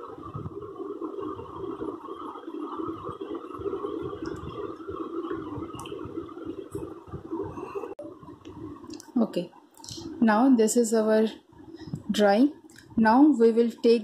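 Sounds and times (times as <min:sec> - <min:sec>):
room noise hum: 0:00.0 - 0:14.0.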